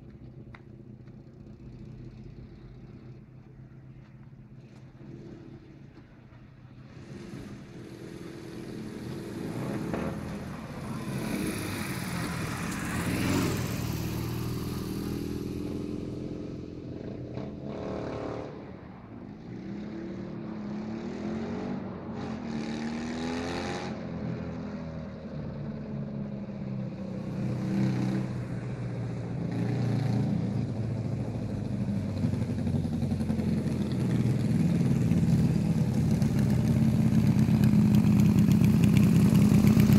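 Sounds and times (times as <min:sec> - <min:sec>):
go-kart engine approaching: 0:00.0 - 0:39.9
sidecar motorcycle engine passing: 0:00.8 - 0:39.9.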